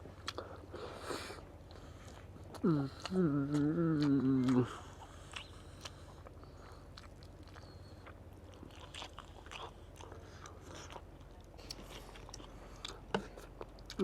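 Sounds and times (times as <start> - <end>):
chewing and biting food: 0.0 - 14.0.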